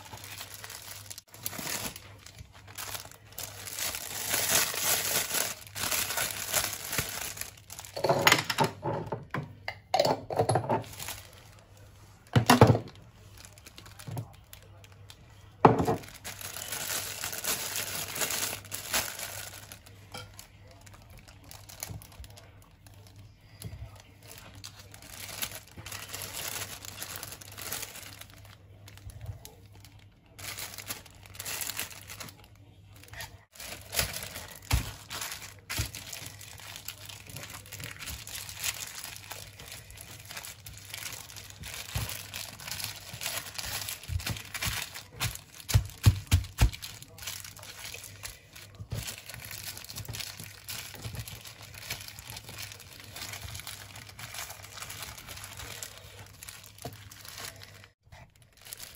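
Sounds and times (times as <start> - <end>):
plastic wrap crinkling: 0.0 - 8.7, 10.8 - 58.9.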